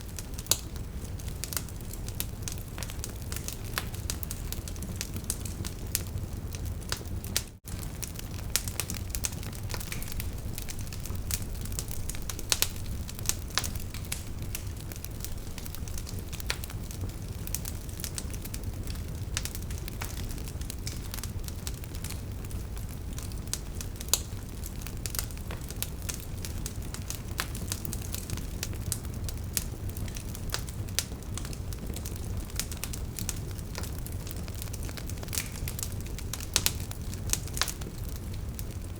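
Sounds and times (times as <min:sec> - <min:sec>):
fire crackling and popping: 0:00.0 - 0:38.9
low rumble of flame: 0:00.0 - 0:38.9.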